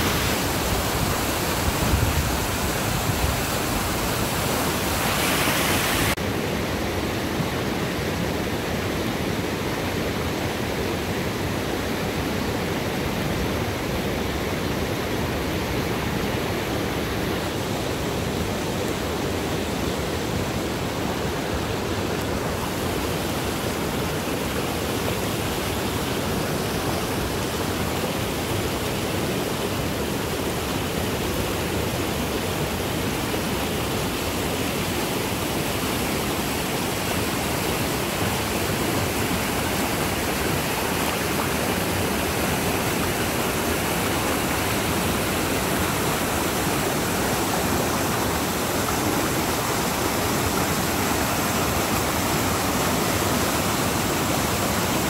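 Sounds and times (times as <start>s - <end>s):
creek rushing over rapids: 0.0s - 55.0s.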